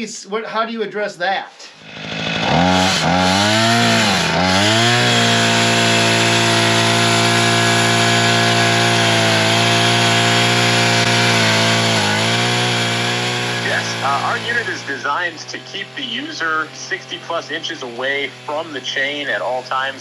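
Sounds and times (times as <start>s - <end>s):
brush cutter engine revving: 1.7s - 20.0s.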